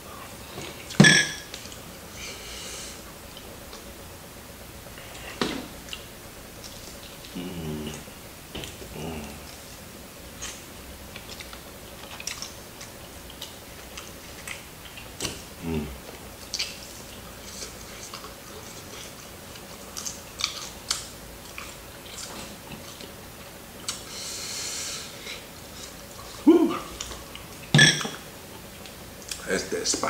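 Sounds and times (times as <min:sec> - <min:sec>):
chewing crispy fried chicken: 0:00.6 - 0:04.1, 0:04.8 - 0:29.9.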